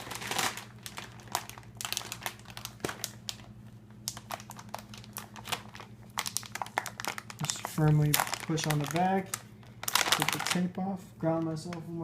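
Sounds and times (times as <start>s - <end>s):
plastic bag crinkling: 0.0s - 10.8s
low steady hum: 0.0s - 12.0s.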